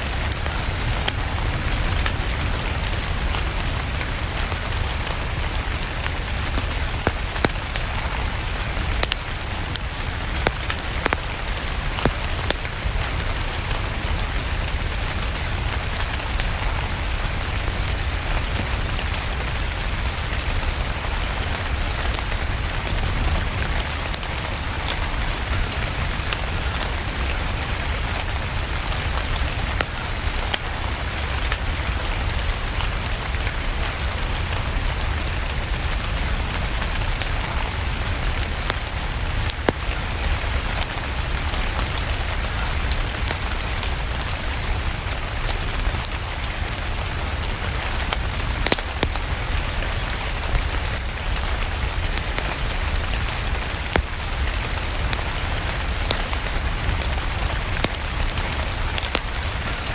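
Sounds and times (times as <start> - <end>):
steady rain: 0.0 - 59.9
wood fire crackling and popping: 0.0 - 59.9.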